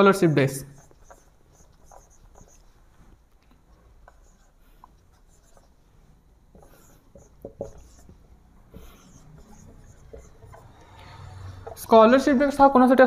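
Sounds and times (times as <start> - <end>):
marker writing on whiteboard: 0.5 - 12.7.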